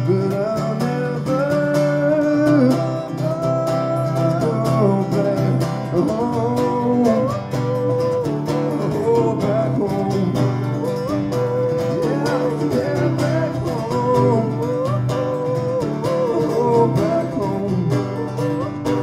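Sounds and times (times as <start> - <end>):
acoustic guitar strumming: 0.0 - 19.0
man singing wordless melody: 0.0 - 19.0.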